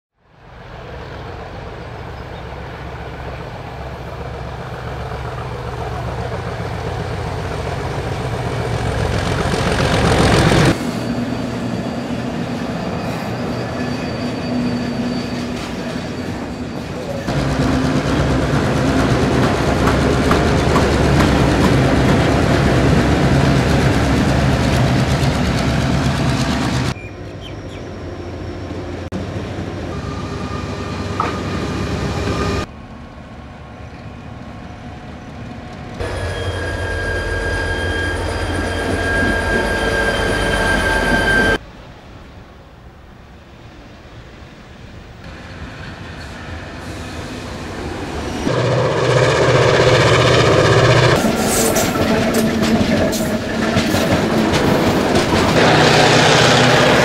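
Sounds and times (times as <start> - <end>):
locomotive engines running: 0.6 - 41.6, 45.3 - 57.0
train wheels on rails: 0.6 - 42.0, 45.0 - 57.0.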